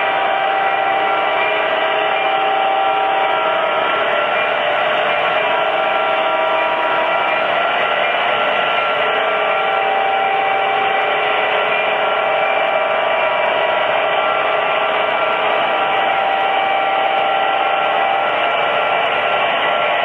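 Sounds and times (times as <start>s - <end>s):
model train wheels whirring: 0.0s - 20.0s.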